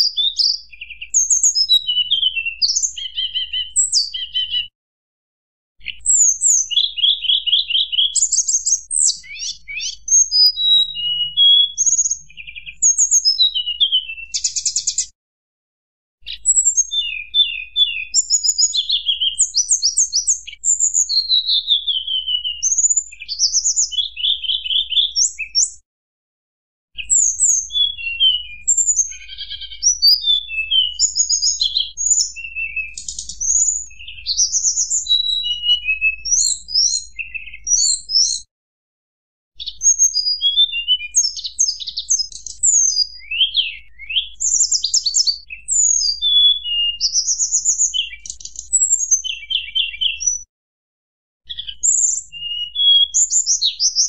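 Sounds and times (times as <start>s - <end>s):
bird singing fluting song: 0.0s - 4.7s, 5.8s - 15.1s, 16.2s - 25.8s, 27.0s - 38.5s, 39.6s - 50.5s, 51.5s - 54.0s.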